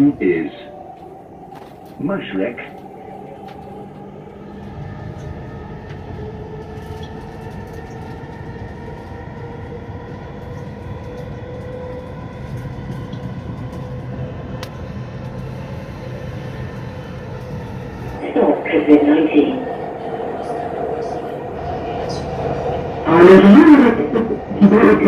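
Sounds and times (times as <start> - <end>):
train drive whine: 0.0 - 25.0
train rumble: 0.0 - 25.0.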